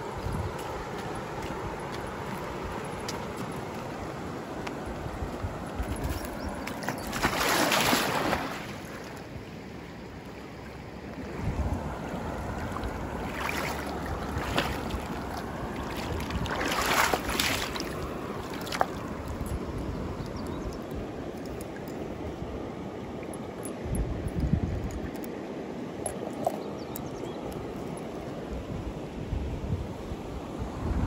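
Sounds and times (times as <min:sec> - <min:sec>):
wind buffeting microphone: 0:00.0 - 0:08.6, 0:11.3 - 0:31.0
river water running: 0:00.0 - 0:31.0.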